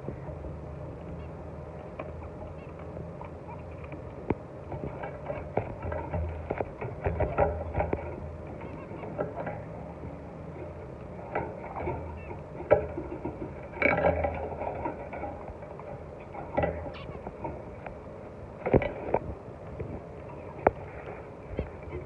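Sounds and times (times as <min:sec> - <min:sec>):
birds tapping and scuffling in cage: 0:00.0 - 0:22.0
steady low hum: 0:00.0 - 0:22.0.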